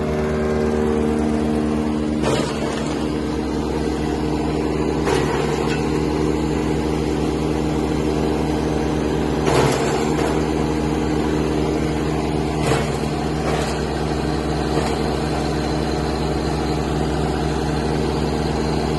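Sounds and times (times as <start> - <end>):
wood chipper running: 0.0 - 18.9.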